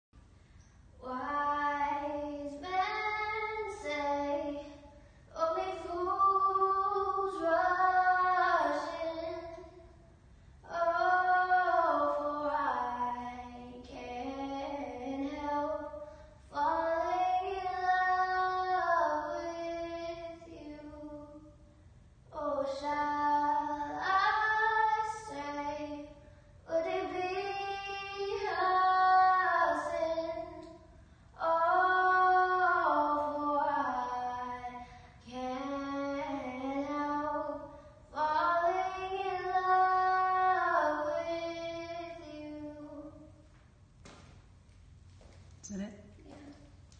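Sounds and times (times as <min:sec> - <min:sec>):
girl singing: 0:01.0 - 0:10.0, 0:10.6 - 0:21.6, 0:22.3 - 0:43.4.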